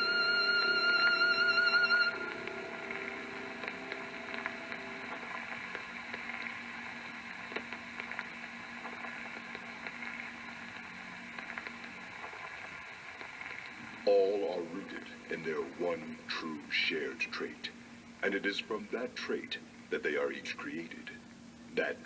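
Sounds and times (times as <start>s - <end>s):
faint steady tones: 0.0s - 22.0s
static-like hiss and hum: 0.0s - 22.0s.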